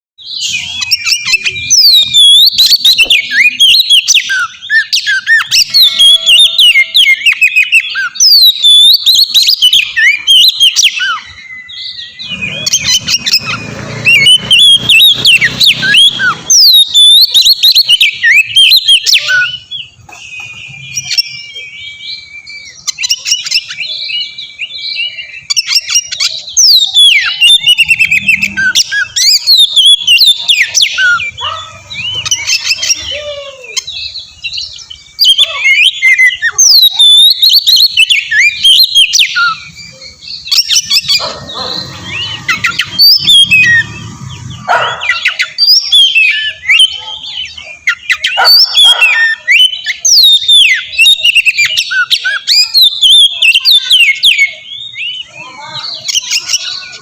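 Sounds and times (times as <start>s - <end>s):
bird singing whistled song: 0.2s - 57.0s.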